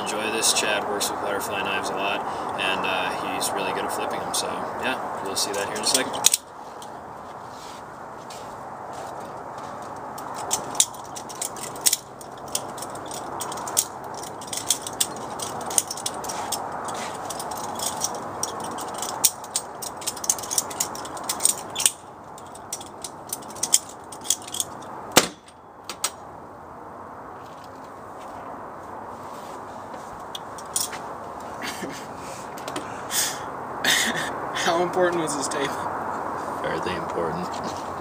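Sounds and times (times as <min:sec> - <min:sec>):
steady background noise: 0:00.0 - 0:38.0.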